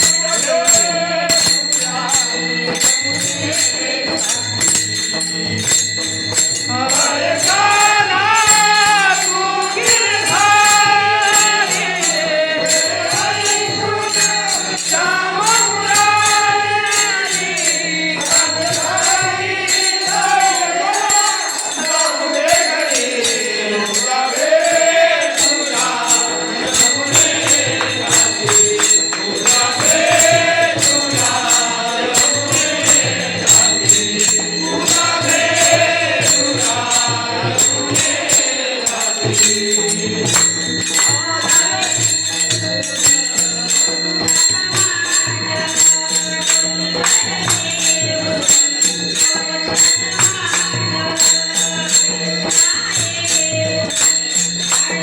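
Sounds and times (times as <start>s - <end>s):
held steady musical notes: 0.0s - 52.7s
jingling metal percussion: 0.0s - 55.0s
percussion beat: 0.0s - 55.0s
woman singing: 6.9s - 55.0s.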